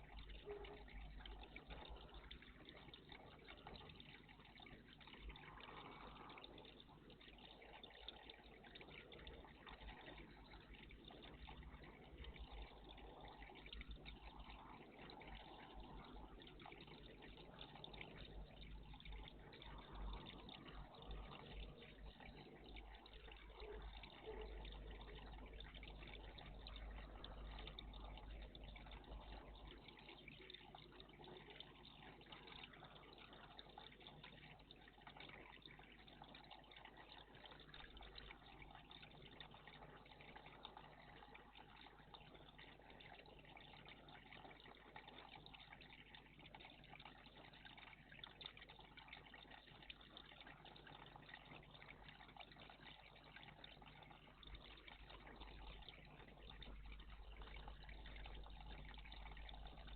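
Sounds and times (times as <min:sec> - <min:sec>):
water trickling in bird bath: 0:00.0 - 0:59.9.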